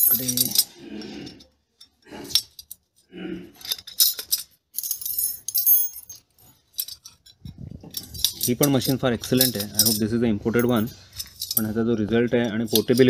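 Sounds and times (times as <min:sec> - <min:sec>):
metal rods clinking and rattling: 0:00.0 - 0:13.0.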